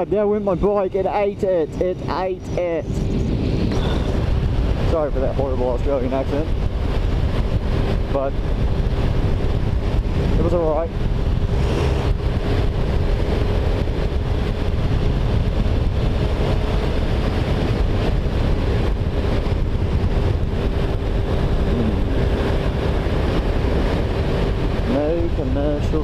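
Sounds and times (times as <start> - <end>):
motorcycle engine running: 0.0 - 26.0
wind buffeting the microphone: 0.0 - 26.0.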